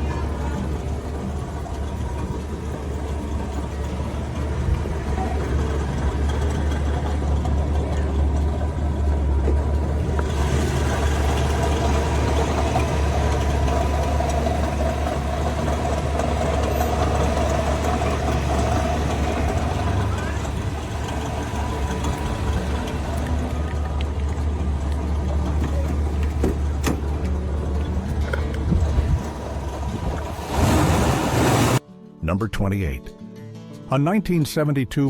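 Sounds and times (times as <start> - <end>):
car engine idling: 0.0 - 31.8.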